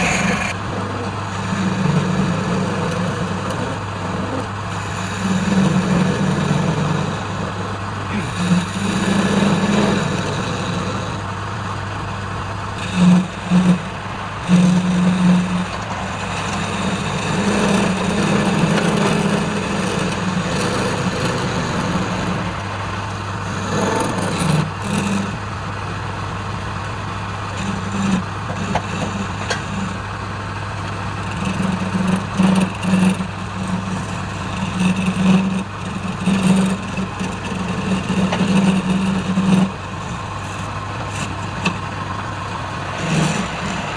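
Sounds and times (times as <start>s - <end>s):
low drone: 0.0s - 30.2s, 31.0s - 43.9s
lathe motor humming: 0.0s - 43.9s.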